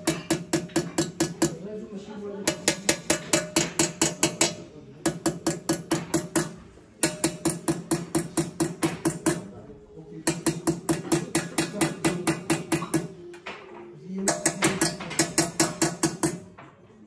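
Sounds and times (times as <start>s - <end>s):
hammer tapping chisel on brass: 0.0s - 1.6s, 2.4s - 9.6s, 10.2s - 13.6s, 14.2s - 16.7s.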